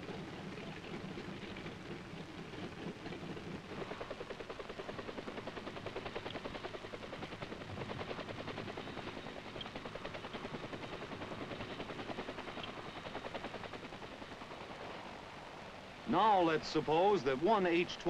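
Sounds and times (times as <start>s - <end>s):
helicopter rotors beating: 0.0s - 18.0s.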